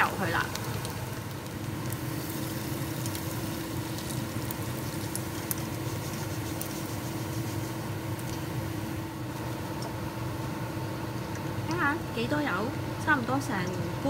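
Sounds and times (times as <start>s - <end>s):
hot fat sizzling through strainer: 0.0s - 12.2s.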